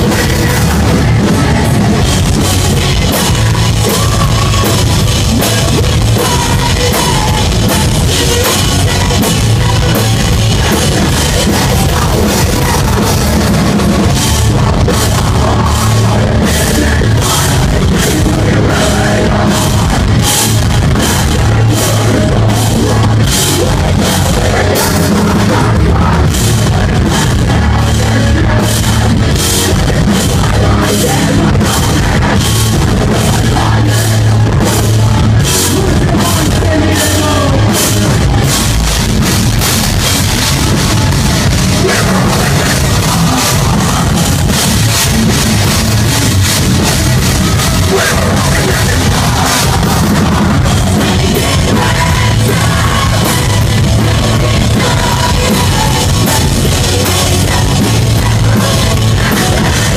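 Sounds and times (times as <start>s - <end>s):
distorted guitars: 0.0s - 59.9s
pounding drums and cymbals: 0.0s - 59.9s
vocals: 0.0s - 59.9s.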